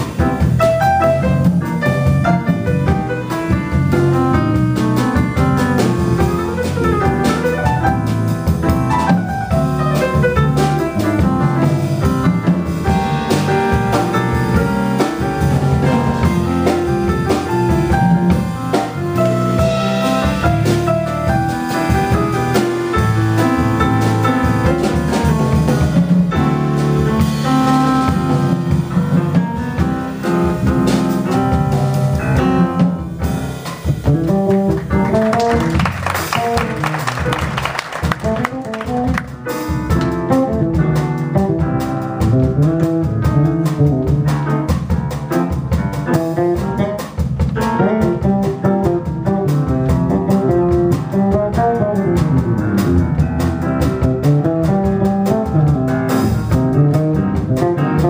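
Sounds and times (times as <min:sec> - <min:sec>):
drum kit with cymbals: 0:00.0 - 0:58.0
electric bass: 0:00.0 - 0:58.0
grand piano: 0:00.0 - 0:58.0.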